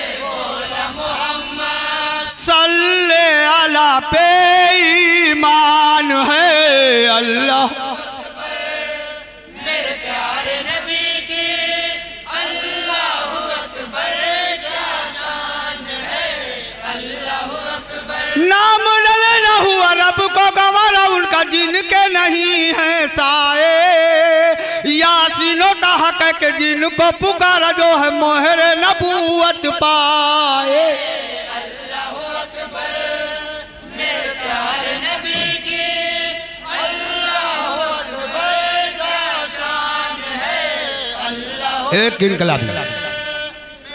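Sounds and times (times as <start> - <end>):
men chanting into a microphone: 0.0 - 43.9.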